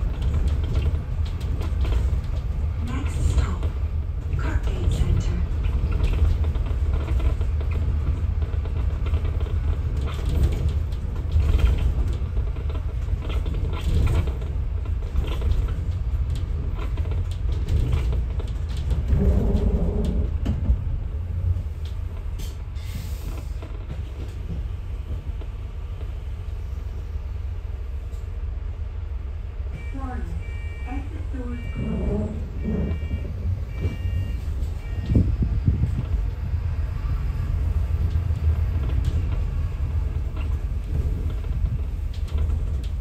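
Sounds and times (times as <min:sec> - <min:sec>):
bus body rattling and creaking: 0:00.0 - 0:43.0
bus engine and road rumble: 0:00.0 - 0:43.0.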